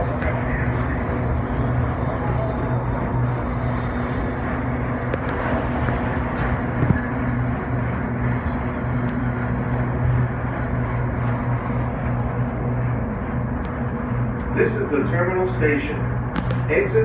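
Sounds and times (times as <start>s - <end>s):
tram hum and rumble: 0.0s - 17.0s.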